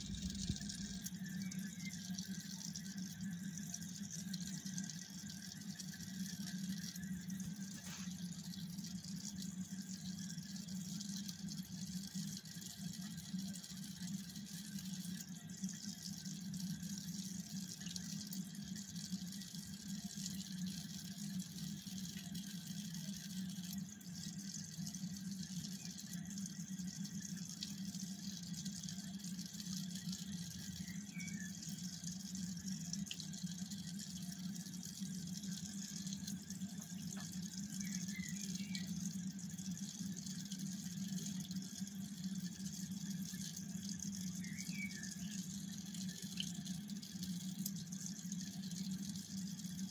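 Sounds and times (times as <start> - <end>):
low pump hum: 0.0 - 49.9
water trickling: 0.0 - 49.9.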